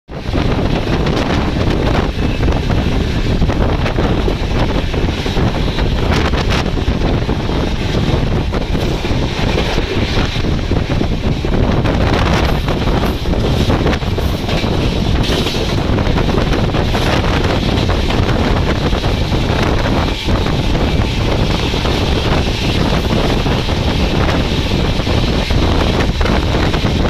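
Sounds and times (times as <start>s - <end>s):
express train rushing past: 0.1s - 27.0s
wind buffeting microphone: 0.1s - 27.0s.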